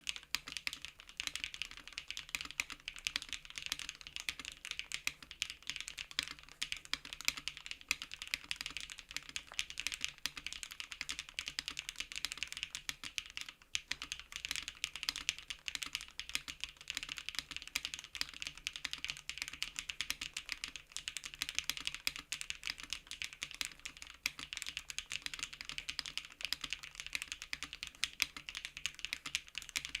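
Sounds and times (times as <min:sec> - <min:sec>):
mechanical keyboard typing: 0:00.1 - 0:30.0.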